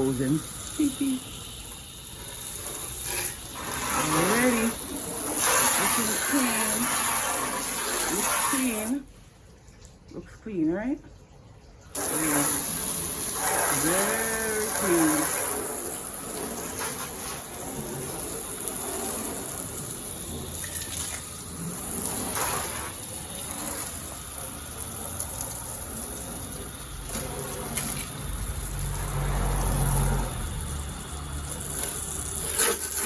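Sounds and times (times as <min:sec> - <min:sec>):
hose spraying water onto car: 0:00.0 - 0:09.6, 0:11.9 - 0:33.0.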